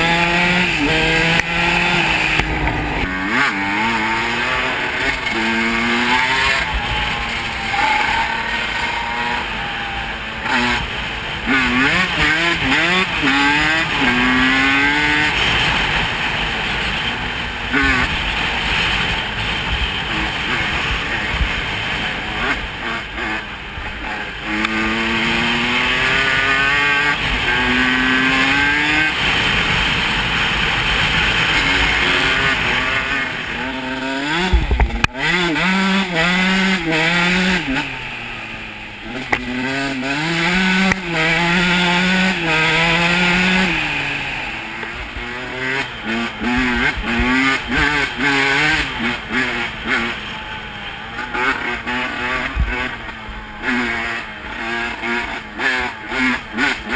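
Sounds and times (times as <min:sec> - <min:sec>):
off-road engine revving: 0:00.0 - 0:56.9.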